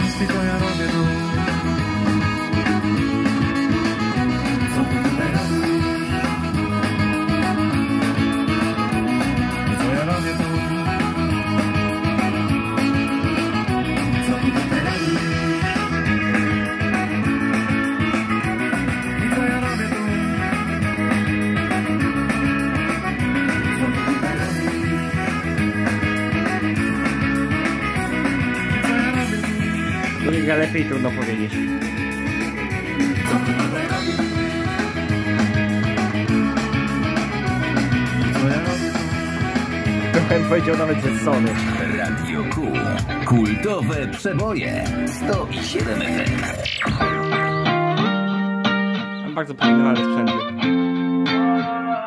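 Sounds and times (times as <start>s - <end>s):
rock song on radio: 0.0s - 52.0s.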